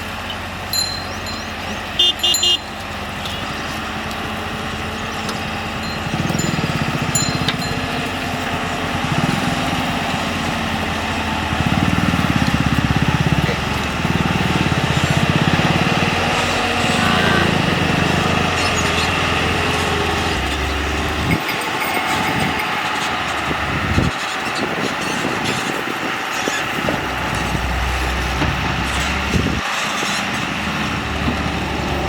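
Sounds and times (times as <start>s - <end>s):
backhoe diesel engine under load: 0.0s - 32.0s.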